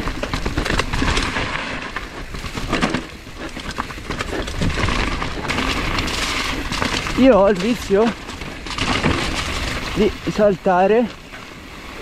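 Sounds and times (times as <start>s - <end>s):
mountain bike rattling on trail: 0.0s - 12.0s.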